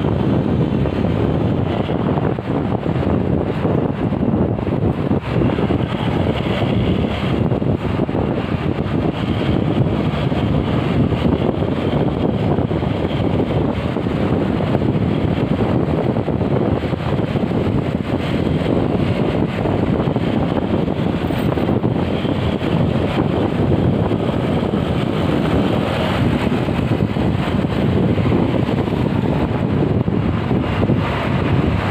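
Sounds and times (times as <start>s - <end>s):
road and traffic noise: 0.0s - 31.9s
wind buffeting microphone: 0.0s - 31.9s.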